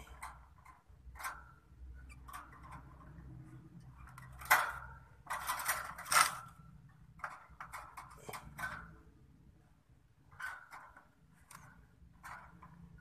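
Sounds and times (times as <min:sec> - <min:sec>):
hand against cage wires: 0:00.0 - 0:09.2, 0:10.3 - 0:13.0.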